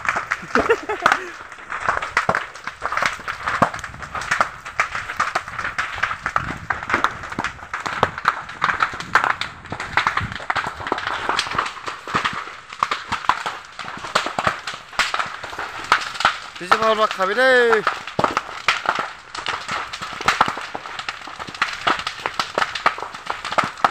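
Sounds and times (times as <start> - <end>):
grass fire crackling and popping: 0.0 - 23.9.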